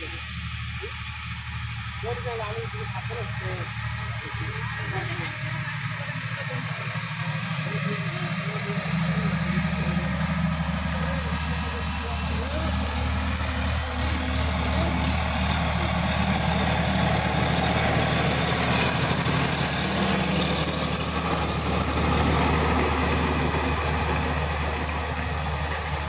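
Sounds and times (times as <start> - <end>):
tiller churning soil: 0.0 - 26.0
tractor diesel engine running: 0.0 - 26.0.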